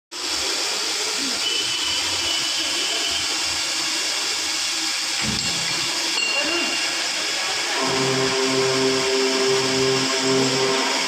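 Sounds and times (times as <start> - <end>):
circular saw cutting: 0.2 - 11.0.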